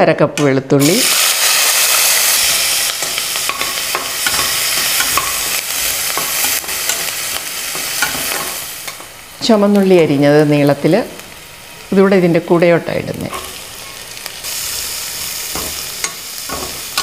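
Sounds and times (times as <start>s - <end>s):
garlic sizzling in hot oil: 0.8s - 17.0s.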